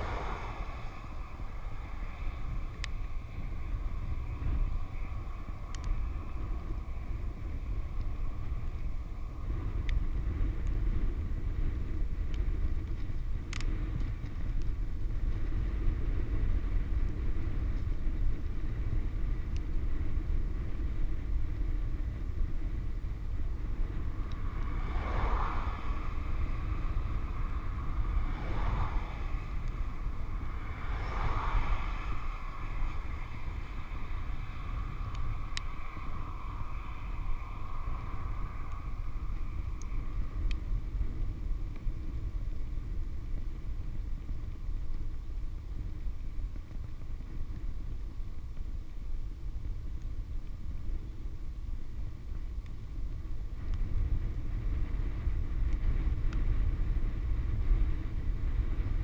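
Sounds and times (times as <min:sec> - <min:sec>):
tyre noise on asphalt: 0:00.0 - 0:59.0
wind rushing over microphone: 0:00.0 - 0:59.0.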